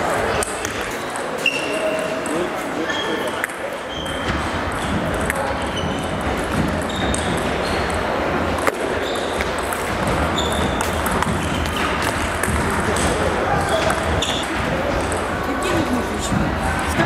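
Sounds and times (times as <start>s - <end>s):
large hall background noise: 0.0s - 17.0s.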